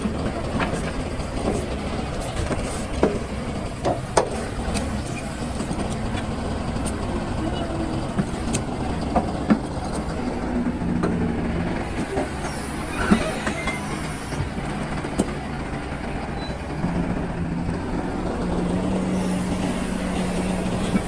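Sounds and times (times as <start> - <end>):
excavator engine droning: 0.0 - 21.0.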